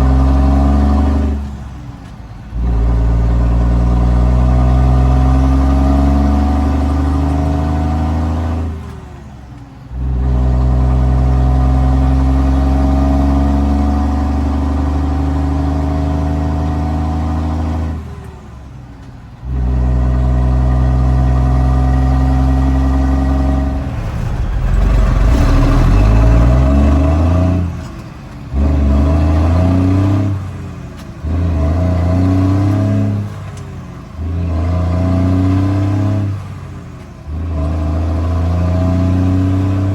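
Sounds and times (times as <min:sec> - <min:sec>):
diesel truck engine shifting gears: 0:00.0 - 0:39.9.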